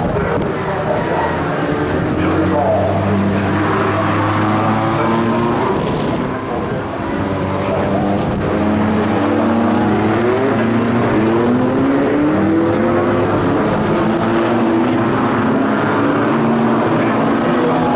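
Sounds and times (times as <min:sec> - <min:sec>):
race car engines accelerating: 0:00.0 - 0:17.9.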